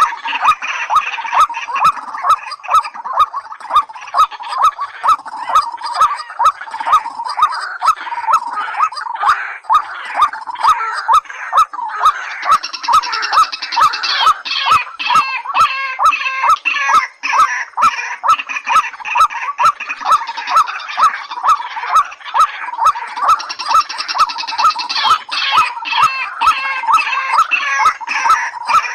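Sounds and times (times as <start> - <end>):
bird calls with sharp clicks: 0.0 - 17.5, 18.2 - 28.9
high bird chattering: 0.0 - 28.9.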